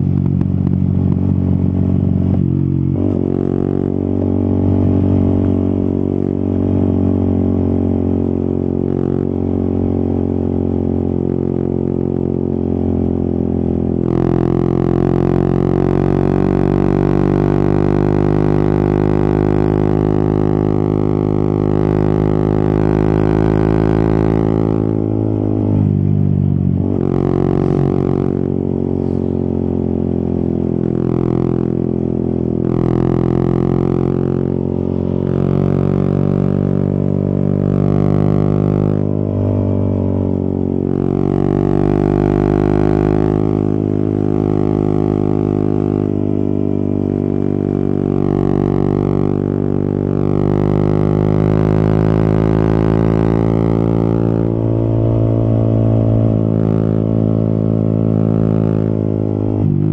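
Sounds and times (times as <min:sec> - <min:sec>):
motorcycle engine droning: 0:00.0 - 0:59.9.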